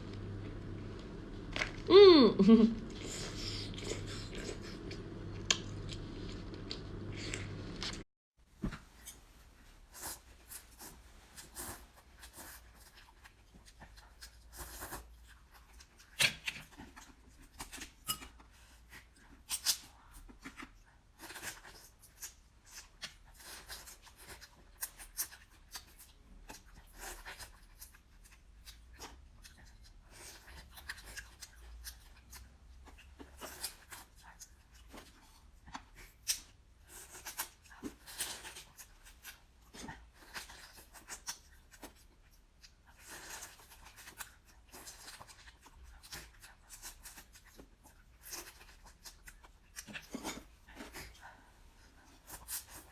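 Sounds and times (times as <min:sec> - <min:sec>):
chewing seafood: 0:02.8 - 0:08.0, 0:10.0 - 0:52.9.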